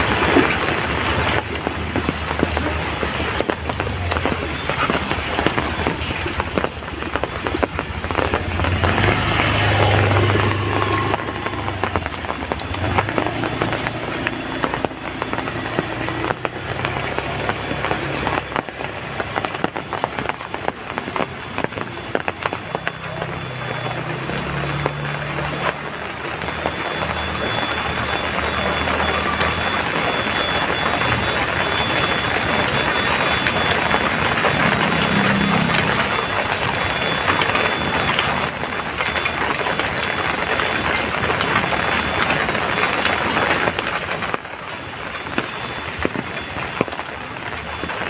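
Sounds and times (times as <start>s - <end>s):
heavy rain on a hard surface: 0.0s - 48.0s.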